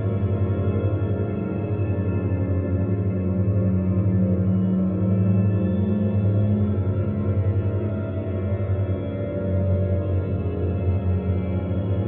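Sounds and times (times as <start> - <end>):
dark ambient drone: 0.0 - 12.0.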